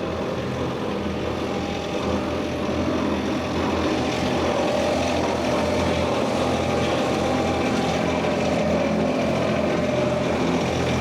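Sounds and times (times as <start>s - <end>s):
engine hum with whine: 0.0s - 11.0s.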